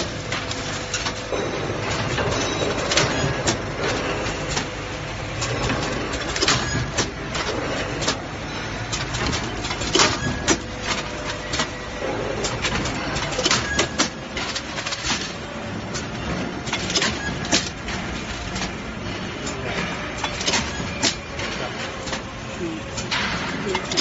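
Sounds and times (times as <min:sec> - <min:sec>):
machine clicks and knocks: 0:00.0 - 0:24.0
steady machine noise: 0:00.0 - 0:24.0.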